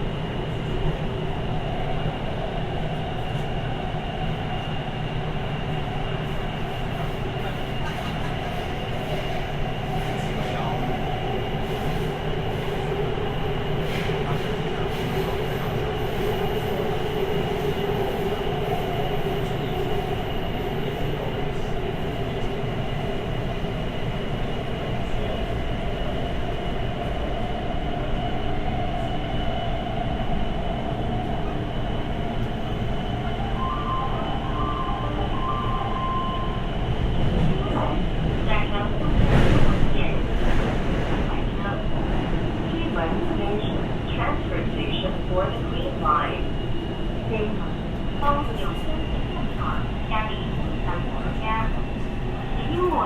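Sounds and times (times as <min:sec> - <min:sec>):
metro wheels rumbling on rail: 0:00.0 - 0:53.0.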